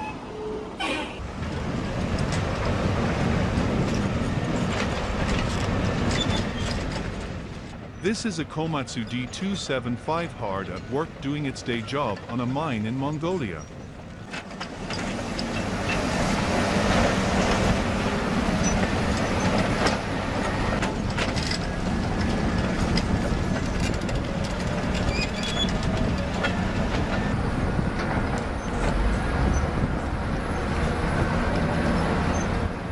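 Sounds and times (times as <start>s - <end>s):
bulldozer diesel engine under load: 0.0s - 32.9s
steel crawler tracks clanking: 0.0s - 32.9s.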